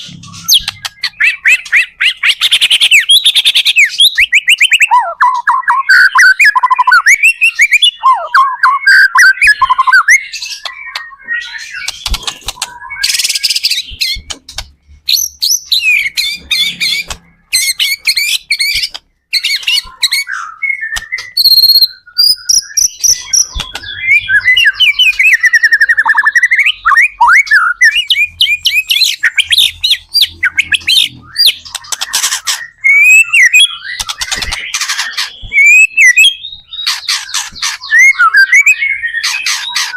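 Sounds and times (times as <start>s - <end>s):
songbird whistling and trilling: 0.1s - 14.4s, 15.1s - 39.9s.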